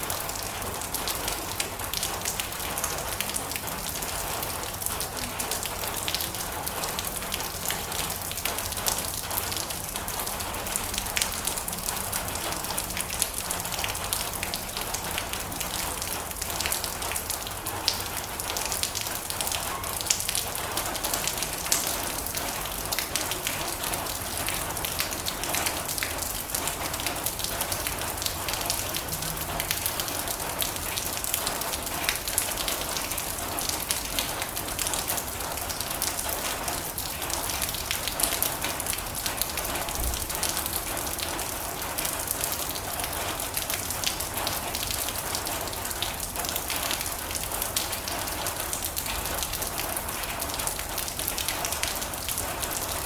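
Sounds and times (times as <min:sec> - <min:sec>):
heavy rain on a metal roof: 0:00.0 - 0:53.0.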